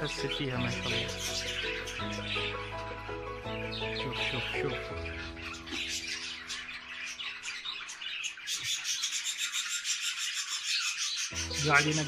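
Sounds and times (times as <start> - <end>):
small parrots chirping: 0.0 - 12.0.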